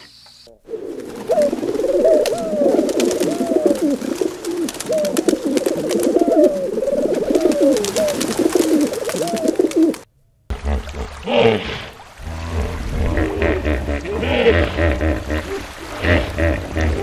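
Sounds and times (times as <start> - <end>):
pigeons cooing: 0.5 - 10.1, 12.6 - 17.0.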